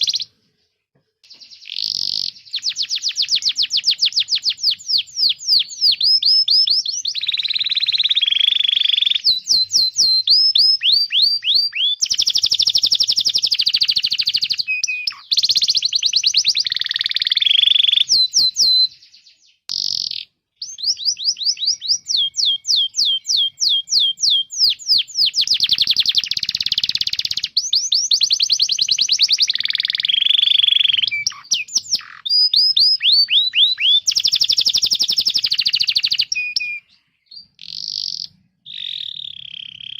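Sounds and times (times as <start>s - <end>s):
canary singing: 0.0s - 0.4s, 1.2s - 39.9s.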